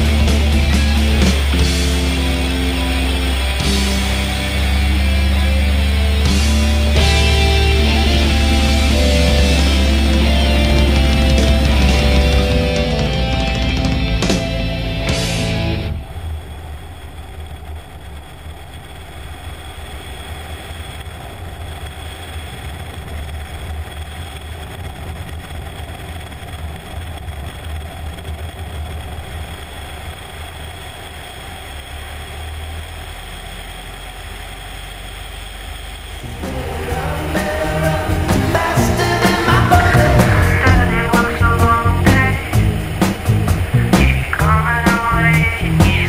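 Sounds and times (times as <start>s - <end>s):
biplane engine running: 0.0s - 46.0s.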